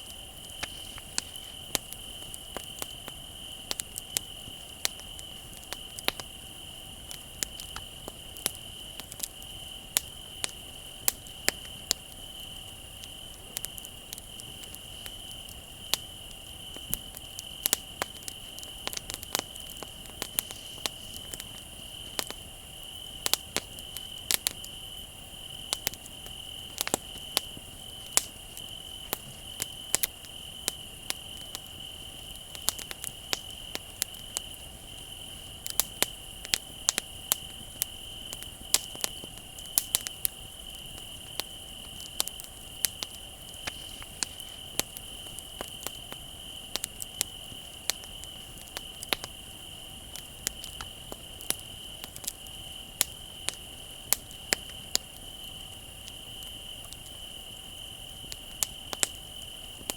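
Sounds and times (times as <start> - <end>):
crickets trilling: 0.0 - 59.9
wood fire crackling and popping: 0.0 - 59.9.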